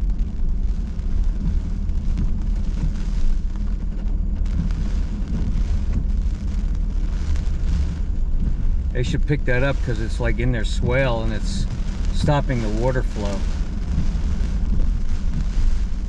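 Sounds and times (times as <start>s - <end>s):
car road and wind rumble: 0.0s - 16.0s
heavy rain beating on a car: 0.0s - 16.0s.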